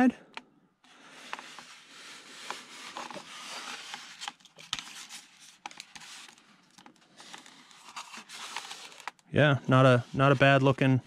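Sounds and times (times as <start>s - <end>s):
foam model rustling in hands: 0.9s - 11.0s.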